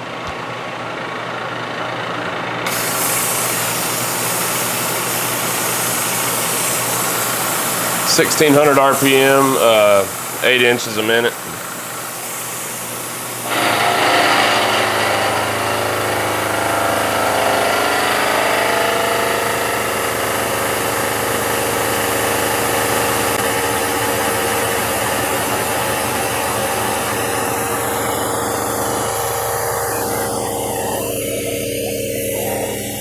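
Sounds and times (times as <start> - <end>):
milling machine cutting steel: 2.7 - 33.0.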